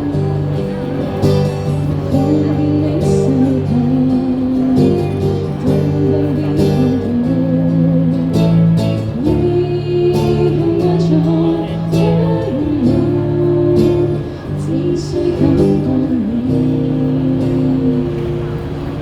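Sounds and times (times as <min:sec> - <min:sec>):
live band with guitars: 0:00.0 - 0:19.0.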